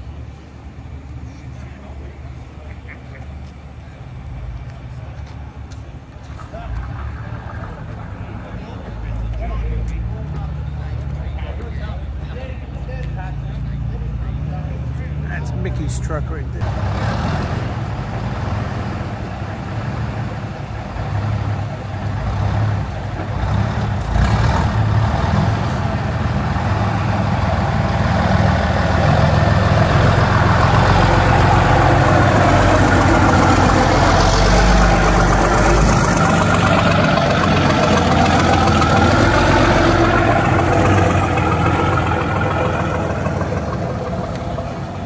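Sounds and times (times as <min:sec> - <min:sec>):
truck engine idling: 0:00.0 - 0:45.0.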